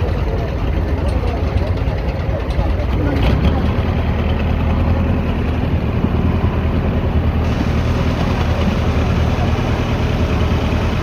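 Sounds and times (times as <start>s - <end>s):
ship engine humming: 0.0s - 11.0s.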